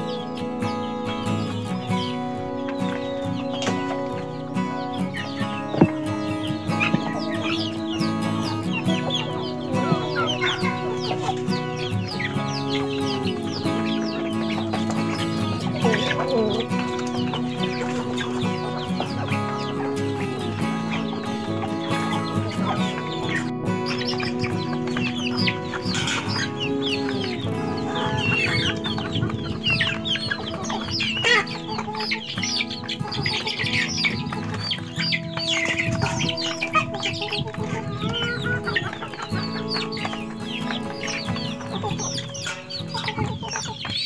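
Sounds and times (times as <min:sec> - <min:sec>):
background music with held notes: 0:00.0 - 0:44.0
chickens clucking: 0:00.0 - 0:44.0
chicks peeping: 0:00.0 - 0:44.0.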